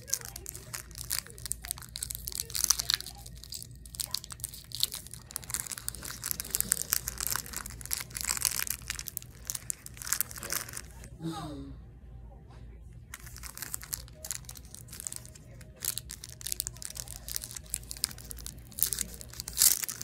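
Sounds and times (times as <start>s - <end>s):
candy wrapper crinkling: 0.0s - 11.1s, 13.1s - 20.0s.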